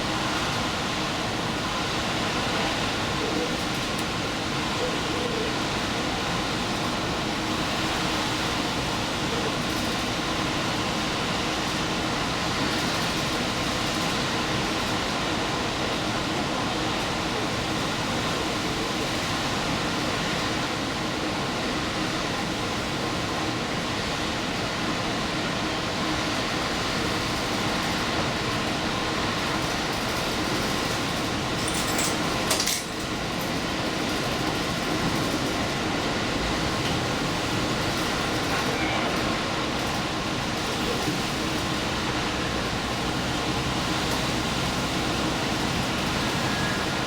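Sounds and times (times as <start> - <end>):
diesel train running: 0.0 - 47.0.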